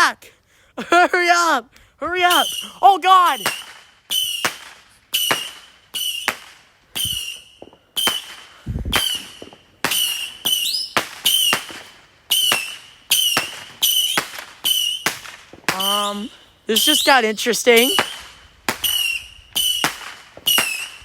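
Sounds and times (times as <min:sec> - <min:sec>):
firework shots popping and whistling: 0:02.2 - 0:21.0.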